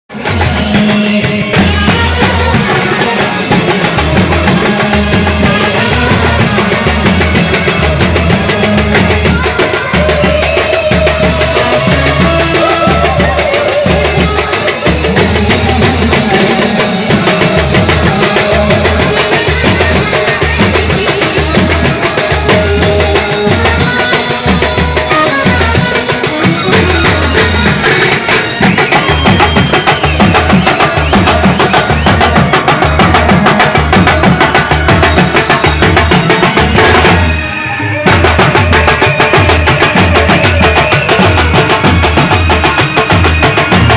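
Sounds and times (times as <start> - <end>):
driving drum beat: 0.1 - 43.9.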